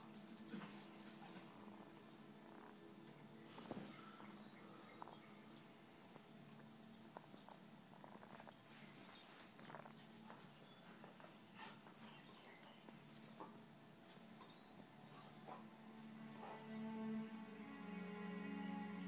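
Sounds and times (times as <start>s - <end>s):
light clicks and jingles: 0.0s - 17.4s.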